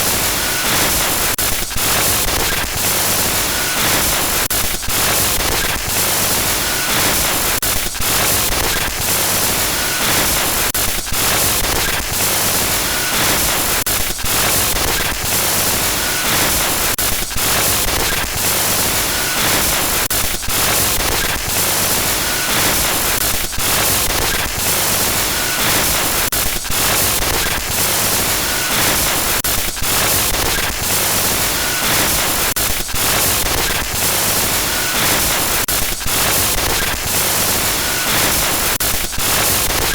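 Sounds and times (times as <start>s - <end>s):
harsh static hiss: 0.0s - 39.9s.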